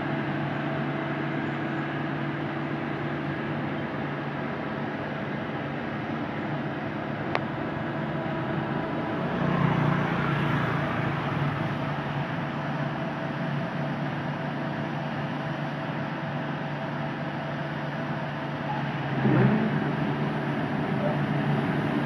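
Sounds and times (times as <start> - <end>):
combine harvester humming: 0.0 - 22.0.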